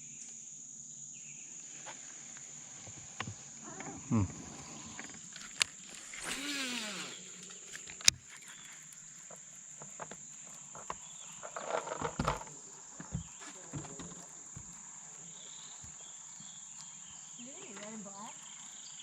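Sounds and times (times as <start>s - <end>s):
insects droning: 0.0s - 19.0s
handling noise: 2.8s - 18.3s.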